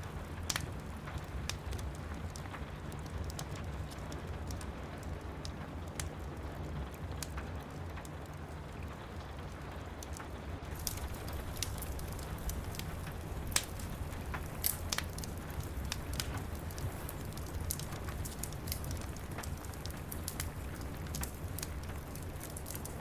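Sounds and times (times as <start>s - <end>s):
rain pattering: 0.0s - 23.0s
wood fire crackling: 0.0s - 23.0s.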